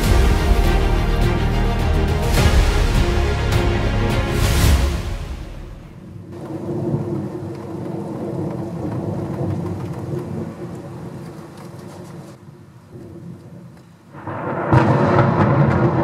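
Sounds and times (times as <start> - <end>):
rolling thunder: 0.0 - 11.2, 14.1 - 16.0
steady rain: 0.0 - 16.0.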